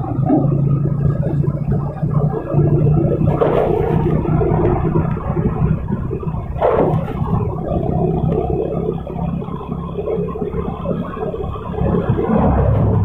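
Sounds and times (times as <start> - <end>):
motorcycle engine running: 0.0 - 13.0
traffic noise: 0.0 - 13.0
wind: 0.0 - 13.0.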